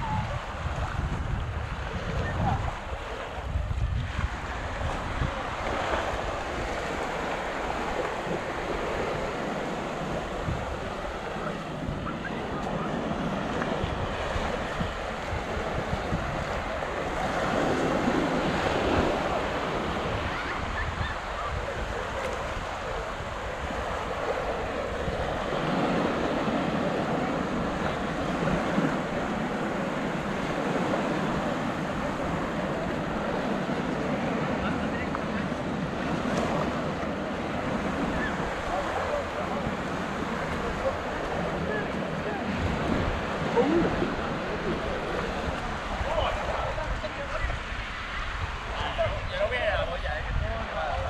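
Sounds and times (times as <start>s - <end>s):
sea surf washing: 0.0s - 51.0s
wind buffeting microphone: 0.0s - 51.0s.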